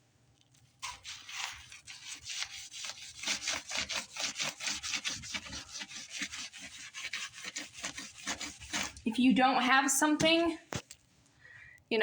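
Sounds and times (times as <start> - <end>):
hand scrubber scrubbing: 0.8 - 10.5.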